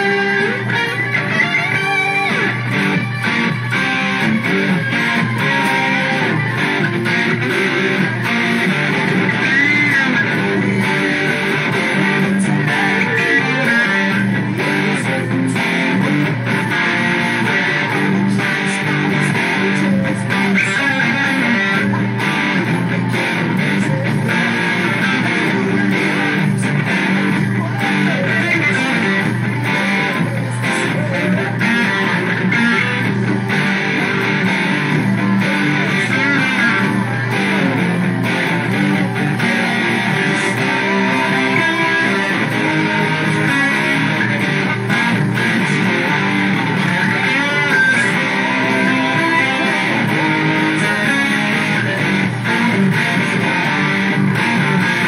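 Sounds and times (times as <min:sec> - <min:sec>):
electric guitar picked: 0:00.0 - 0:55.0.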